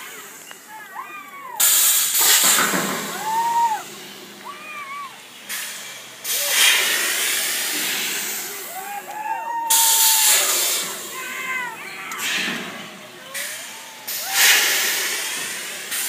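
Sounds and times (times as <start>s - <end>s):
people screaming: 0.0s - 5.4s, 6.2s - 16.0s
loud rushing hiss: 0.0s - 16.0s.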